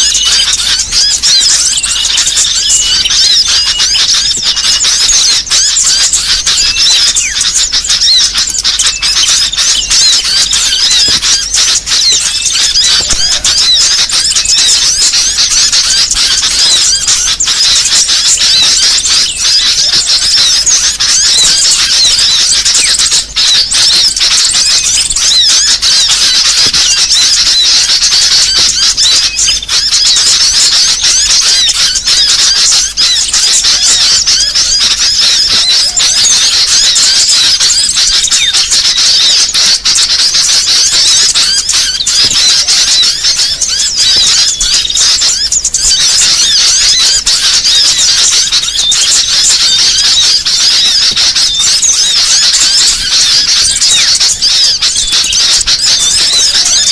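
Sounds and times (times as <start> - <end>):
small songbirds chirping and twittering: 0.0 - 56.9.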